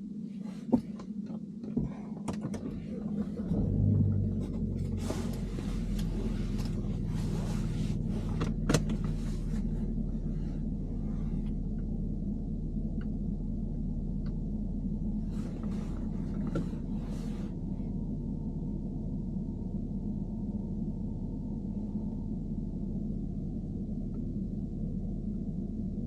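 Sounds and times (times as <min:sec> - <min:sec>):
car engine humming: 0:00.0 - 0:26.0.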